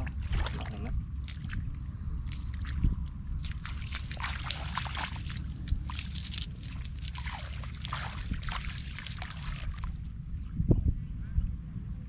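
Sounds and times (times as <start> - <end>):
feet splashing through water: 0.0 - 10.5
steady low rumble: 0.0 - 12.0.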